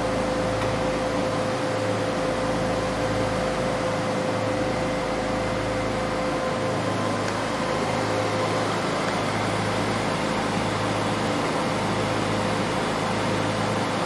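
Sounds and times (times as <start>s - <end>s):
machine hum and fan whir: 0.0s - 14.0s.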